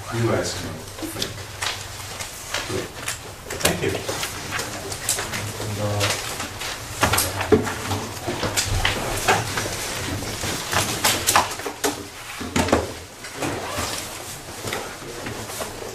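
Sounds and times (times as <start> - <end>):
rustling: 0.4 - 15.9.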